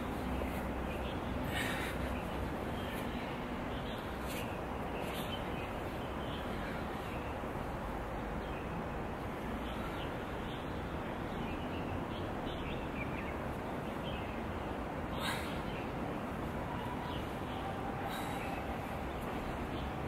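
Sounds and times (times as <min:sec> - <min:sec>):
outdoor background rumble: 0:00.0 - 0:20.0.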